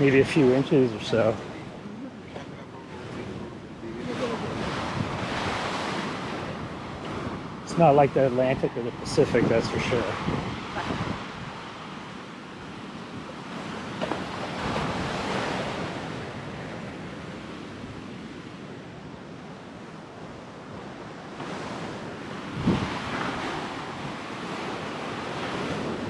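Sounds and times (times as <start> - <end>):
surf washing onto beach: 0.0 - 26.0
wave breaking: 0.0 - 26.0
wind on the microphone: 0.0 - 26.0.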